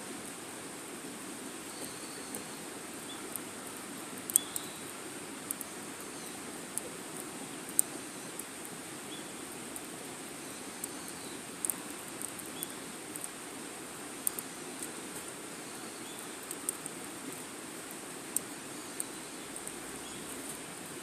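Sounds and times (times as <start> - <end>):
wood fire crackling: 0.2 - 21.0.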